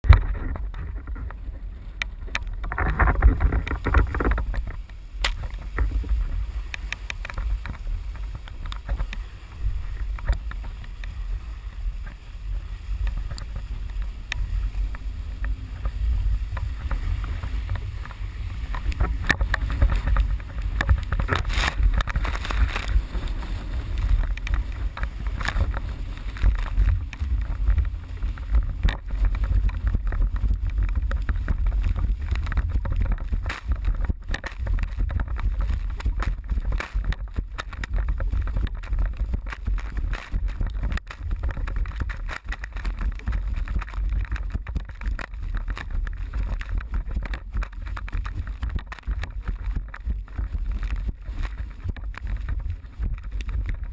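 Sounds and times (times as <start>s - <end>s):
board slapping choppy water: 0.0s - 53.9s
wind buffeting the microphone: 0.0s - 53.9s.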